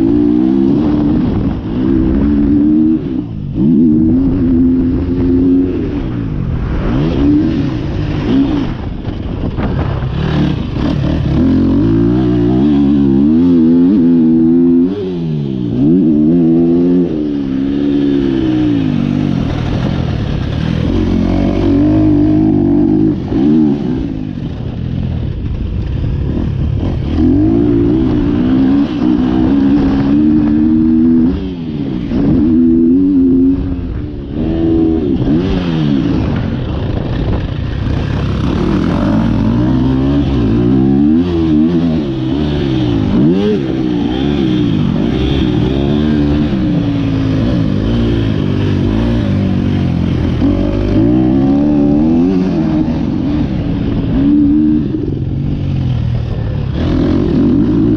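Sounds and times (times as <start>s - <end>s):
motocross bike engine revving: 0.0s - 57.9s.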